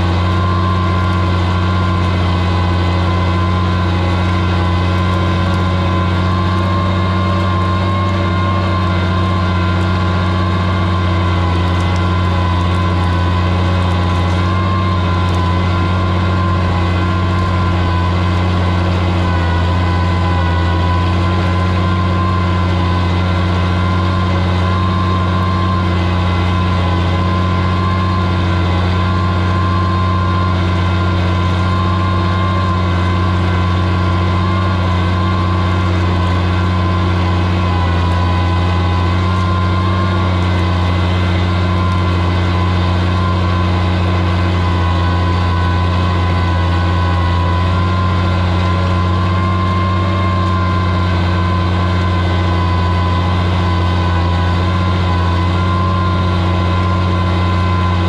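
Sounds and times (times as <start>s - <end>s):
tractor engine under load: 0.0s - 58.0s.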